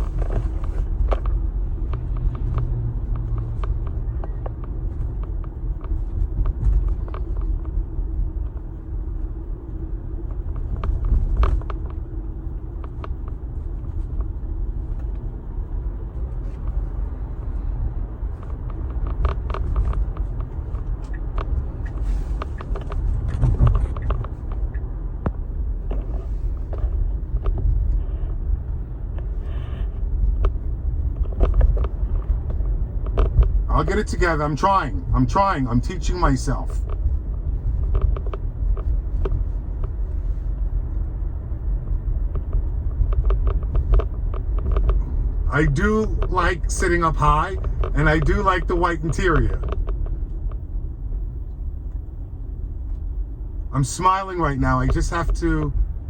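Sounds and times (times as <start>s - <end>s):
road rumble inside car: 0.0s - 56.0s.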